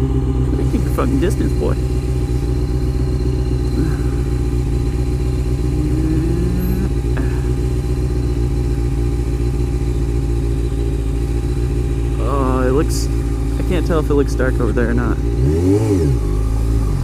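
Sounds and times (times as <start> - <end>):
motorcycle engine running: 0.0 - 17.0
second engine rising in pitch: 0.0 - 17.0.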